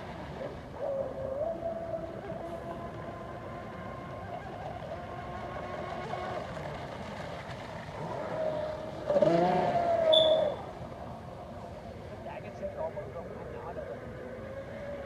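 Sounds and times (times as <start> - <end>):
model boat motor whining: 0.0 - 15.0.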